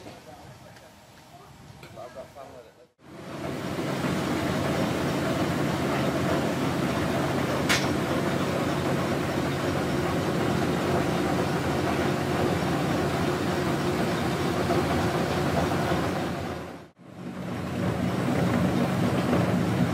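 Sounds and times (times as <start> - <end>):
diesel engine idling: 3.1 - 19.9.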